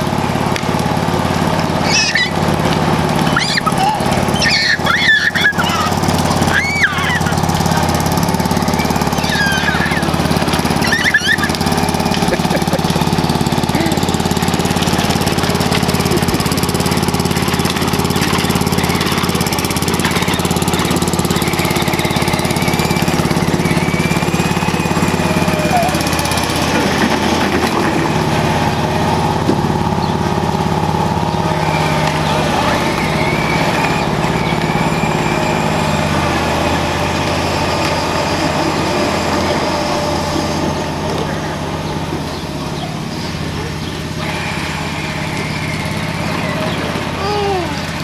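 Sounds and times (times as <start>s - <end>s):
lawn tractor engine running: 0.0s - 48.0s.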